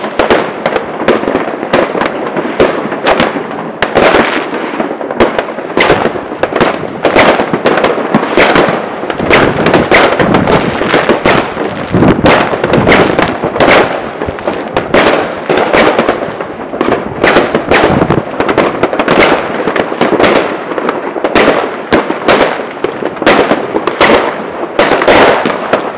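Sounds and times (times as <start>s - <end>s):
firecrackers crackling: 0.0s - 25.9s
fireworks bangs: 0.0s - 25.9s.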